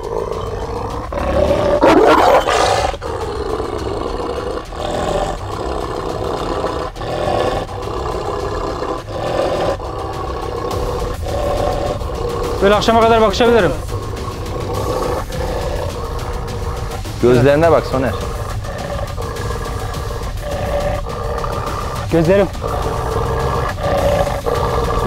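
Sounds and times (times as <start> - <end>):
dog growling deeply: 0.0 - 25.0.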